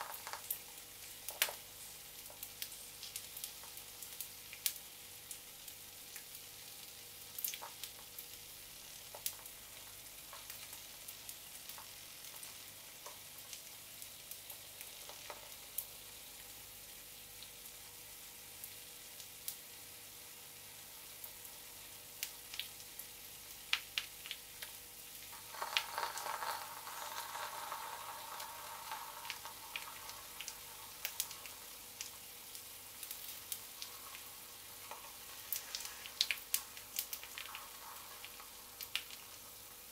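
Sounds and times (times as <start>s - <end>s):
oil popping and crackling: 0.0s - 16.6s, 21.2s - 39.9s
egg sizzling in oil: 0.0s - 39.9s.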